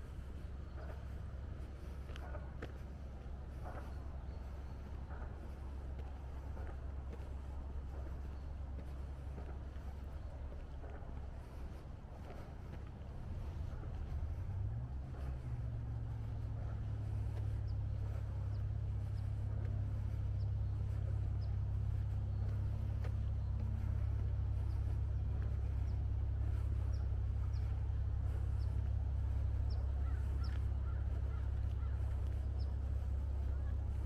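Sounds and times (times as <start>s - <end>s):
low rumble: 0.0s - 34.0s
small birds chirping: 0.0s - 34.0s.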